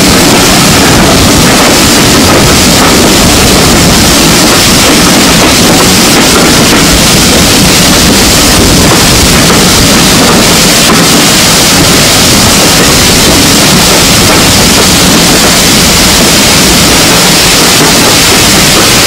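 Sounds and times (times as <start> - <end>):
rush of wind and train noise: 0.0 - 19.0.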